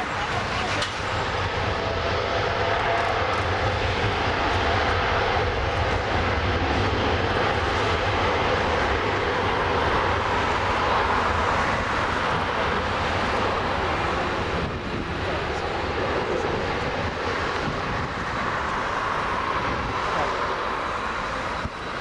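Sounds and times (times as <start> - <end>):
jet engines at takeoff thrust: 0.0 - 22.0.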